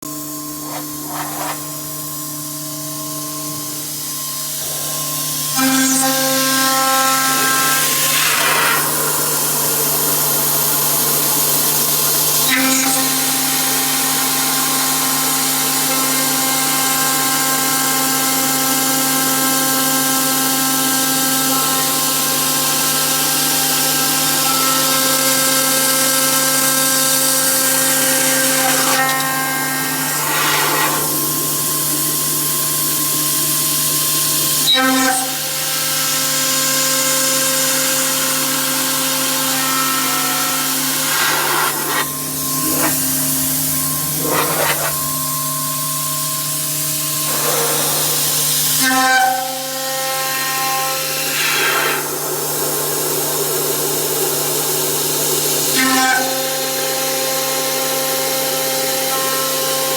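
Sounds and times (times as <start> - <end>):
milling machine spindle whine: 0.1 - 59.9.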